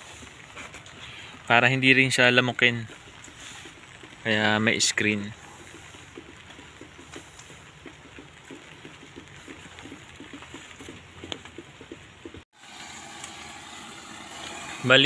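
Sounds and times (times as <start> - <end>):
water trickling from hose: 0.0 - 11.6, 12.5 - 15.0.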